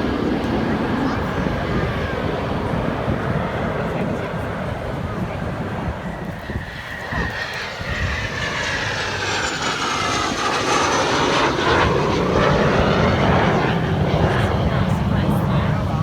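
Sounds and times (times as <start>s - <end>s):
airplane flying past: 0.0s - 16.0s.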